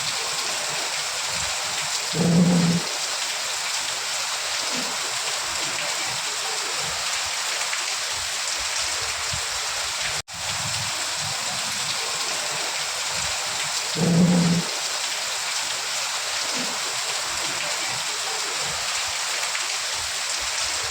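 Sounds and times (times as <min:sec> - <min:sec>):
heavy rain: 0:00.0 - 0:20.9.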